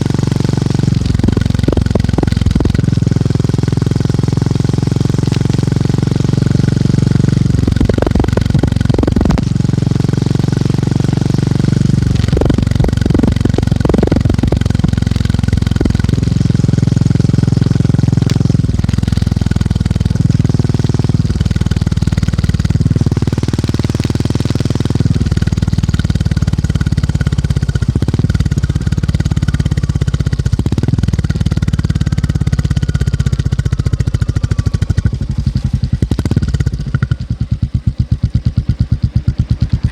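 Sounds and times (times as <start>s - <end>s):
motorcycle engine thumping: 0.0s - 39.9s.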